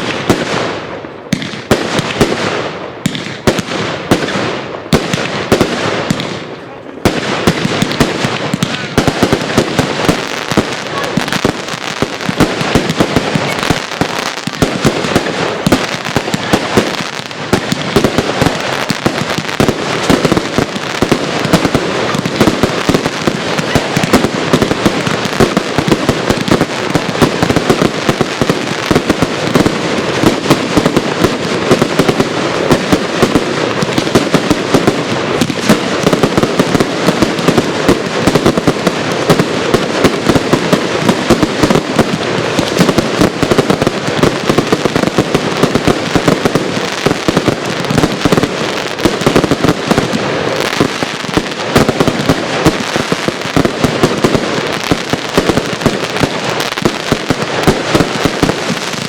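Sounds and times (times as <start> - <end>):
firework bangs: 0.0 - 59.0
firework barrage and crackle: 0.0 - 59.0.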